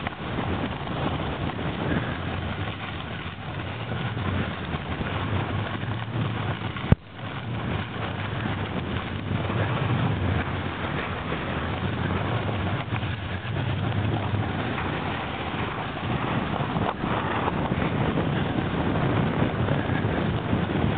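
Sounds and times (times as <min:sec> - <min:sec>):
snowboard sliding on snow: 0:00.0 - 0:20.9
wind buffeting microphone: 0:00.0 - 0:20.9.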